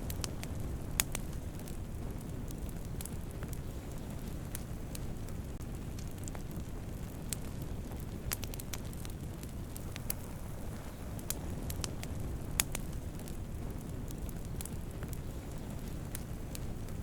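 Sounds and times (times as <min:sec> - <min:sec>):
fire low rumble: 0:00.0 - 0:17.0
wood fire crackles and pops: 0:00.0 - 0:17.0.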